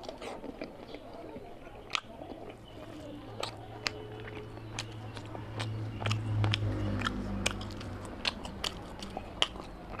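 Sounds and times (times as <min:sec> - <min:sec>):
wet chewing clicks: 0:00.0 - 0:10.0.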